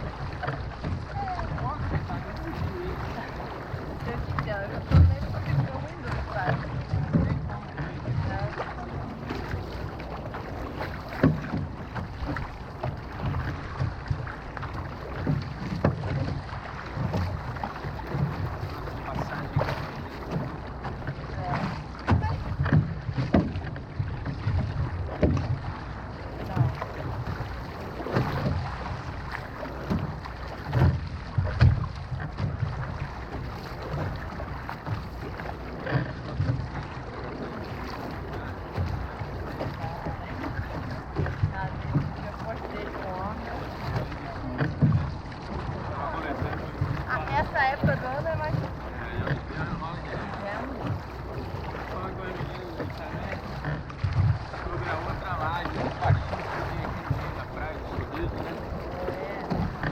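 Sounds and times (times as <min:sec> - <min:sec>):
paddles knocking on boat: 0:00.0 - 0:59.9
water splashing around hull: 0:00.0 - 0:59.9
wind buffeting microphone: 0:00.0 - 0:59.9.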